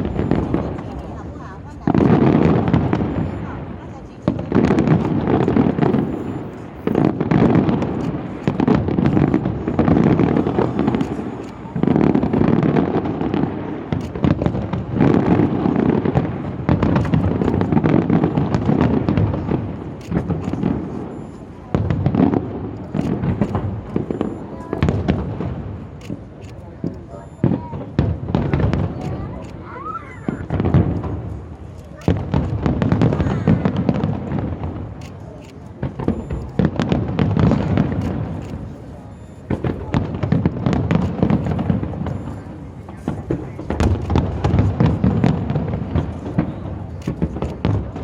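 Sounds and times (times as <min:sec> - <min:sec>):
fireworks booming and crackling: 0:00.0 - 0:48.0.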